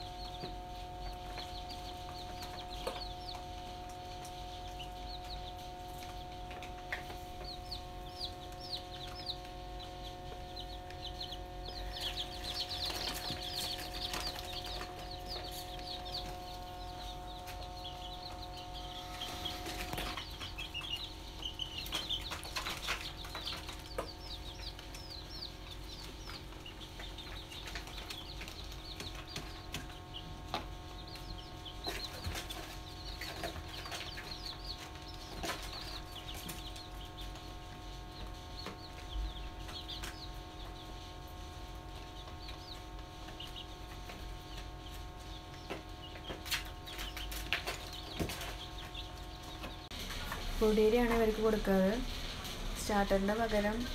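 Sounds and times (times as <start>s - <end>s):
chicks peeping: 0.0s - 53.9s
steady hum: 0.0s - 53.9s.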